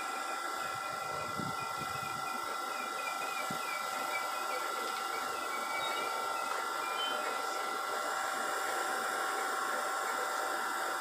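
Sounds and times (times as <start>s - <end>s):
constant high whine: 0.0s - 11.0s.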